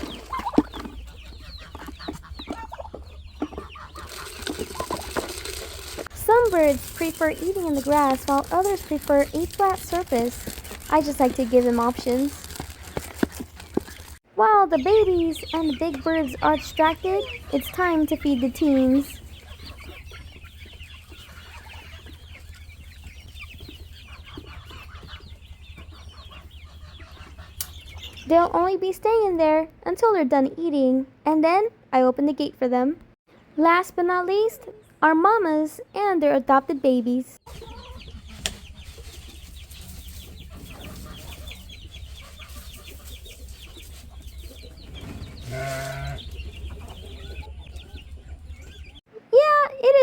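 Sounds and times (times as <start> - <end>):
chicks peeping and cheeping: 0.0 - 30.1, 34.2 - 49.2.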